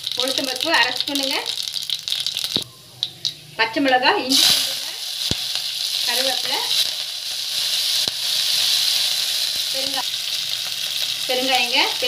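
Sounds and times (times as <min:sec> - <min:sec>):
hot oil sizzling and spluttering: 0:00.0 - 0:03.4, 0:04.2 - 0:12.0.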